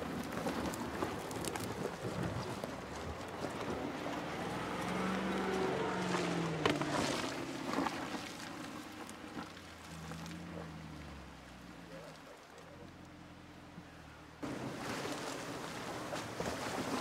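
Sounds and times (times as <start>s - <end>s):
vehicle engine running at low revs: 0.6s - 17.0s.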